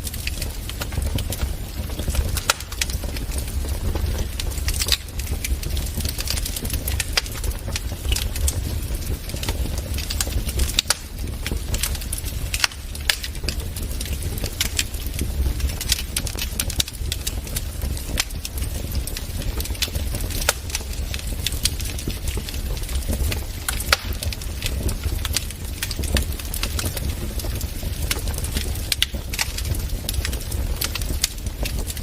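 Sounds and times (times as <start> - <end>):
burning logs popping and snapping: 0.0 - 32.0
flames rumbling: 0.0 - 32.0.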